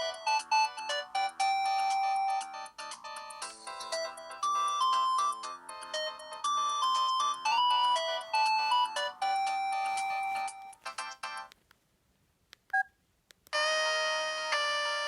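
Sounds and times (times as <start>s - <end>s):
polyphonic ringtone melody: 0.0s - 11.4s, 13.6s - 15.0s.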